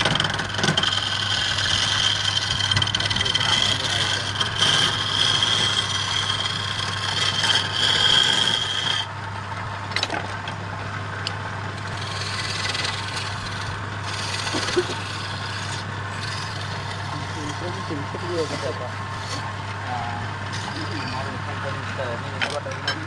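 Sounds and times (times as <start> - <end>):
lathe tool cutting wood: 0.0 - 9.2, 11.5 - 22.6
low steady hum: 0.0 - 23.0.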